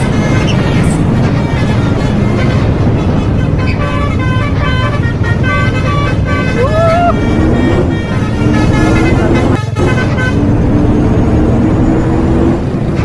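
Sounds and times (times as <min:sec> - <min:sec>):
low engine rumble: 0:00.0 - 0:13.0
multi-tone bus horn tune: 0:00.0 - 0:13.0.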